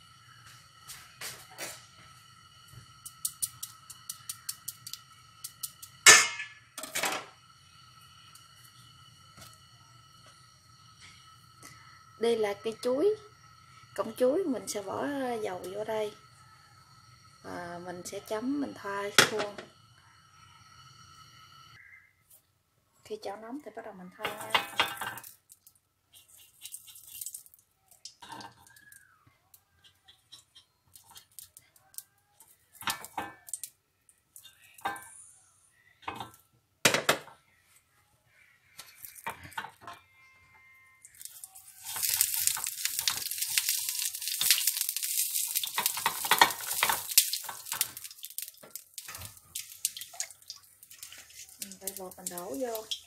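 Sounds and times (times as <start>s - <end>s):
oil sizzling: 0.0s - 21.9s, 24.1s - 35.3s, 36.0s - 36.4s, 38.7s - 39.9s, 41.0s - 53.0s.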